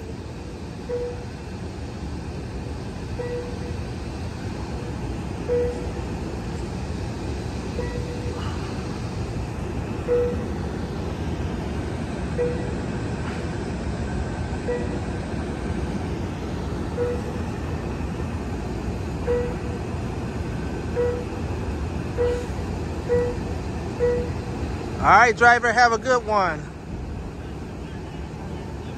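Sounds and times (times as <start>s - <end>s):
train low rumble: 0.0s - 28.9s.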